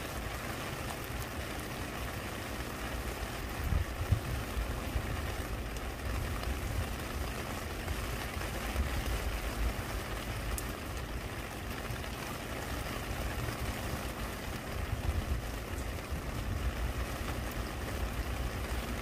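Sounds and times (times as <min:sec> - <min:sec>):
rain on stone and leaves: 0:00.0 - 0:19.0.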